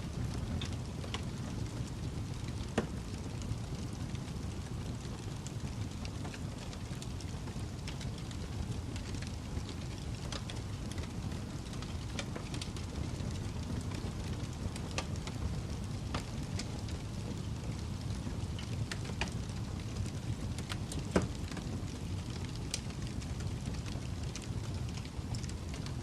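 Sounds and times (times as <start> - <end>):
low rush of flame: 0.0 - 26.0
wood fire crackling: 0.0 - 26.0
fire pops and snaps: 0.1 - 26.0.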